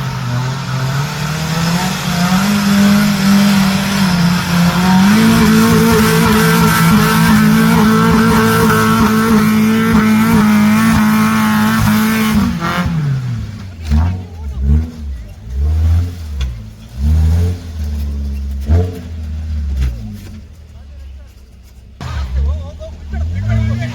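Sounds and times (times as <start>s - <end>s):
vehicle engine revving hard: 0.0s - 20.4s, 22.0s - 23.9s.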